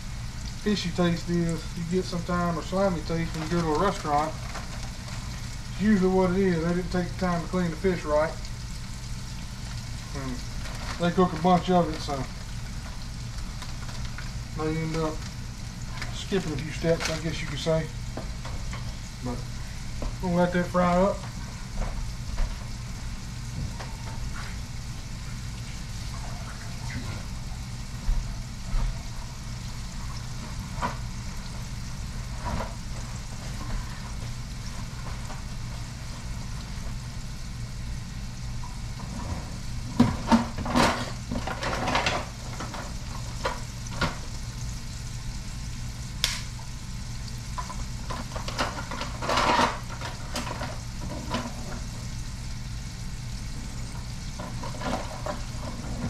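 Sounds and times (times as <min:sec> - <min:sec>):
fish sizzling in oil: 0:00.0 - 0:56.0.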